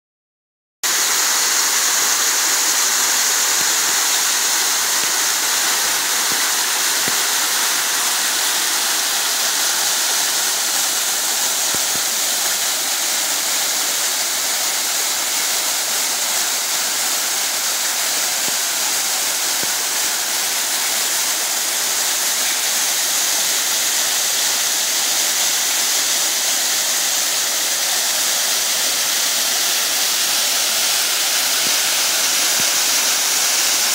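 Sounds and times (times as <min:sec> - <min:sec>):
small waterfall rushing: 0:00.8 - 0:33.9.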